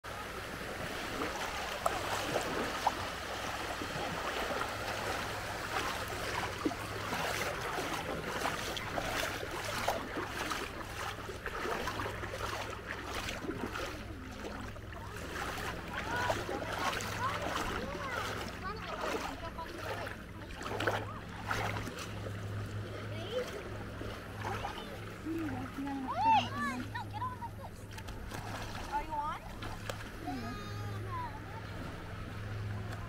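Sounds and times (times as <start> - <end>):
seawater sloshing and splashing: 0.0 - 33.0.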